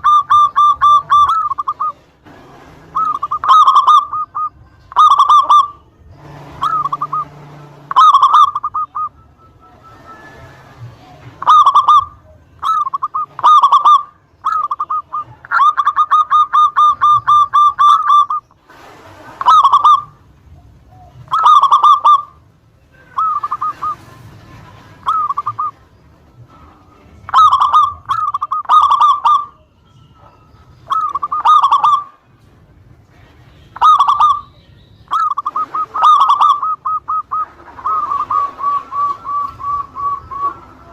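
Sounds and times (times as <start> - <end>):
zebra dove cooing: 0.0 - 5.8, 6.4 - 18.5, 19.4 - 22.4, 23.1 - 25.9, 27.2 - 32.2, 33.7 - 40.9.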